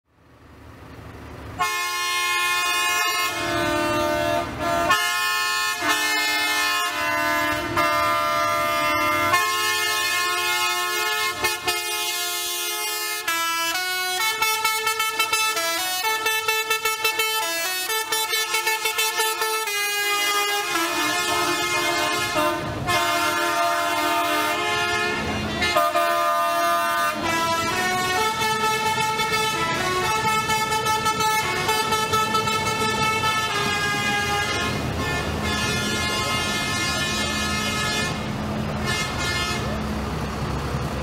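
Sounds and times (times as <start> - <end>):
tractor horns honking: 0.3 - 40.0.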